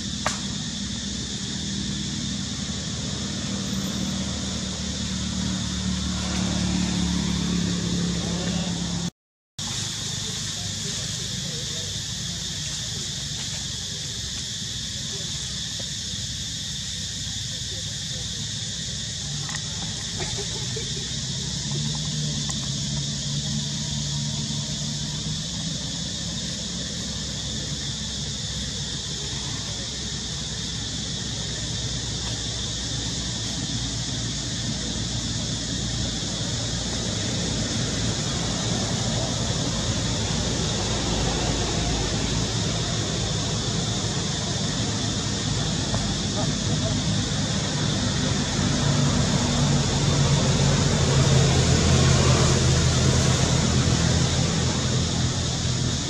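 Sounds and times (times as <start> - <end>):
high-pitched hiss: 0.0 - 56.0
low engine-like hum: 0.0 - 56.0.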